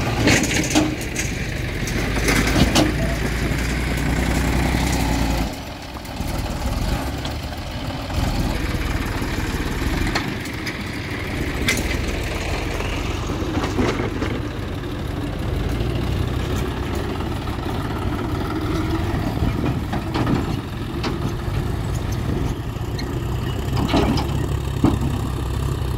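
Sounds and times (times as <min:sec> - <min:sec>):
tractor diesel engine running: 0:00.0 - 0:25.9
trailer knocking and rattling: 0:00.0 - 0:25.9.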